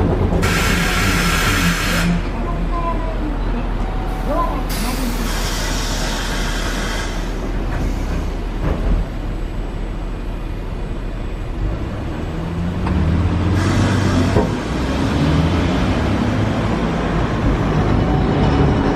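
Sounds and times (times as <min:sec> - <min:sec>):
city traffic noise: 0:00.0 - 0:18.9
streetcar running on track: 0:00.0 - 0:18.9.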